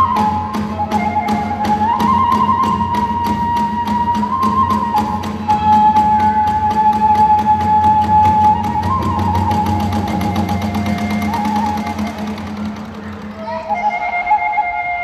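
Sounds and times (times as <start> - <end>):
bamboo flute long high notes: 0.0 - 15.0.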